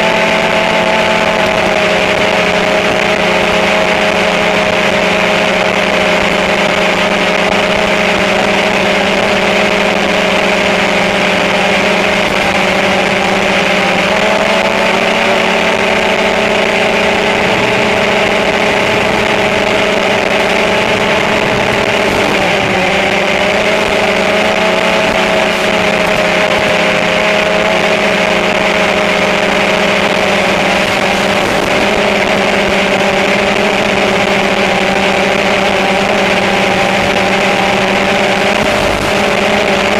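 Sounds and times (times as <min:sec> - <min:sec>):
model aircraft propellers humming: 0:00.0 - 0:39.9.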